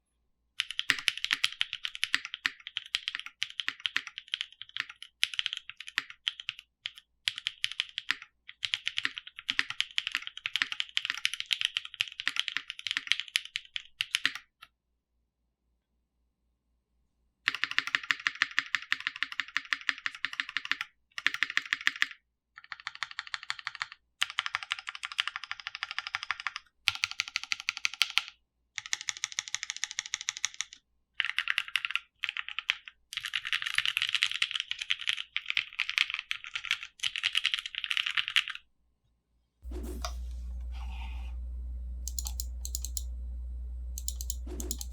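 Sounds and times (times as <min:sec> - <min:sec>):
mechanical keyboard fast typing: 0:00.6 - 0:14.5, 0:17.5 - 0:38.6, 0:42.0 - 0:43.1, 0:44.0 - 0:44.9.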